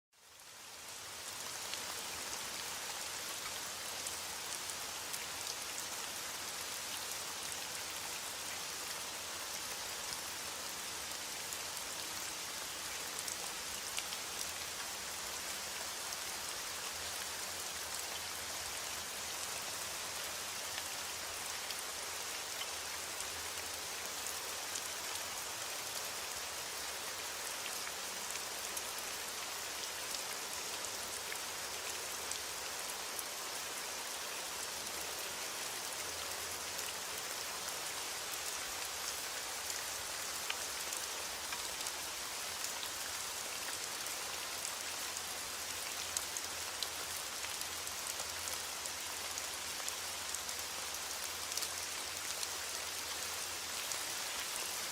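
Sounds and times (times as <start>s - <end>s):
steady rain: 0.1s - 54.9s.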